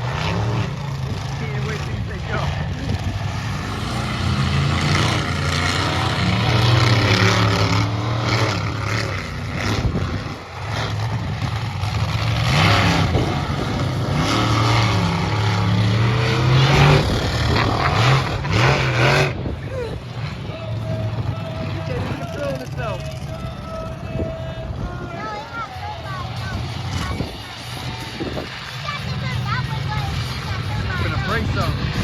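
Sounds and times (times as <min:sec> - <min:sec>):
monster truck engines revving: 0:00.0 - 0:32.0.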